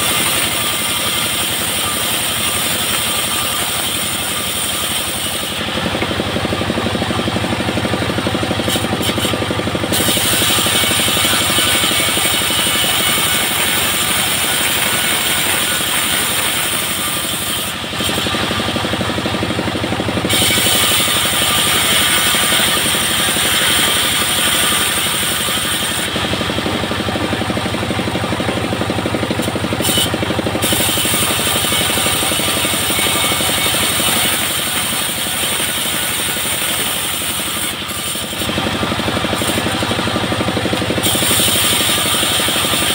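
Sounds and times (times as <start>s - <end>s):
diesel engine chugging: 0.0s - 42.9s.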